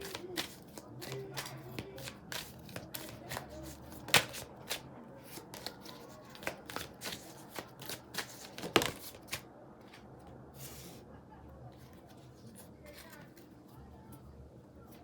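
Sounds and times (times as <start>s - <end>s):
cards being shuffled: 0.0s - 11.0s, 11.7s - 13.7s.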